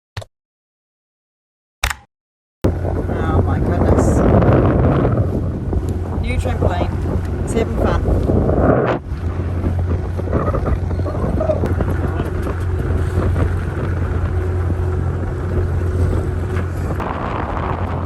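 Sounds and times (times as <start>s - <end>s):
steady low rumble: 2.6s - 18.0s
wind buffeting microphone: 2.6s - 18.0s.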